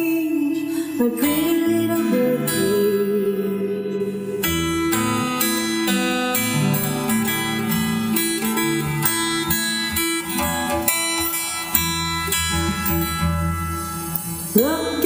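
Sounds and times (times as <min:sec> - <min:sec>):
acoustic guitar strumming: 0:01.2 - 0:15.0.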